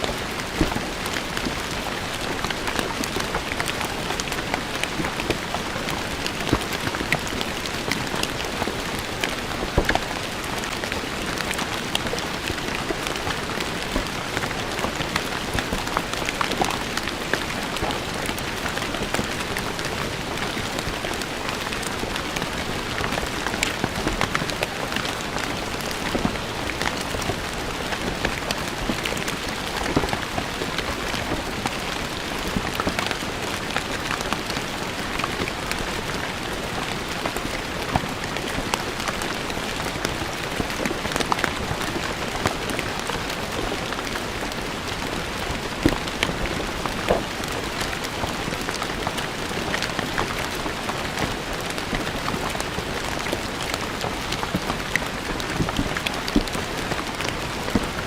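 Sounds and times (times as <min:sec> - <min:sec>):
rain on stone paving: 0:00.0 - 0:58.0.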